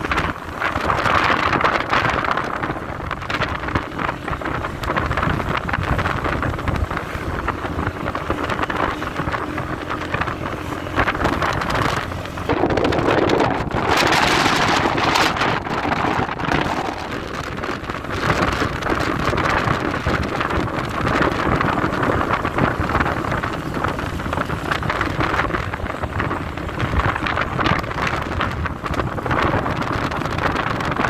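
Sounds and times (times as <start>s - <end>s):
vehicle road noise: 0.0s - 31.0s
wind rushing over microphone: 0.0s - 31.0s.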